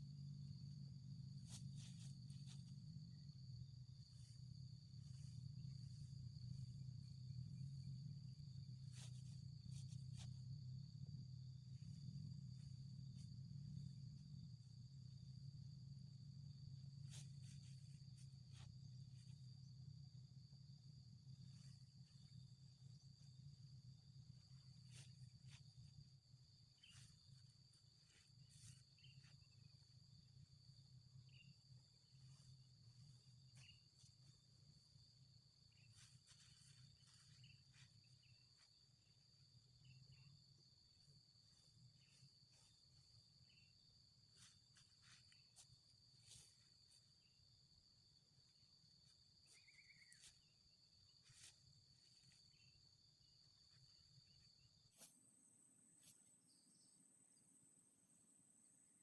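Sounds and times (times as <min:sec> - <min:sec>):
low hum: 0:00.0 - 0:48.2
high-pitched insect drone: 0:00.0 - 0:57.4.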